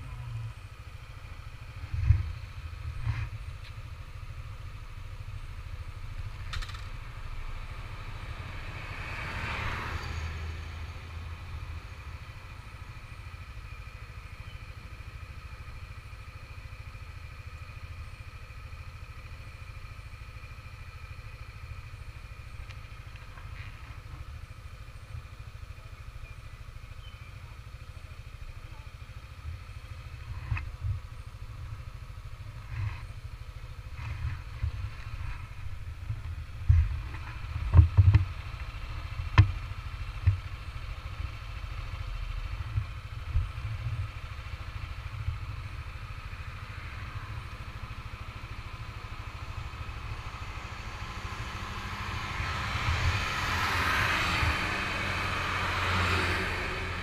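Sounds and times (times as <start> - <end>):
scooter engine idling: 0.0 - 8.1, 10.7 - 53.9.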